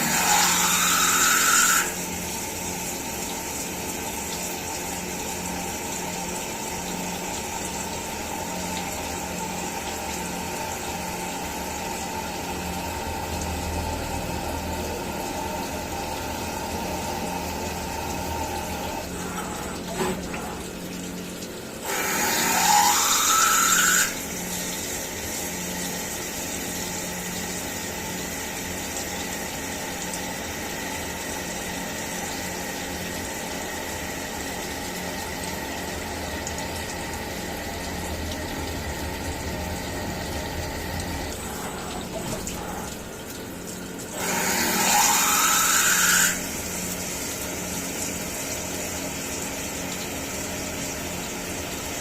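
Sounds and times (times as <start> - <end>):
milling machine drone: 0.0 - 52.0.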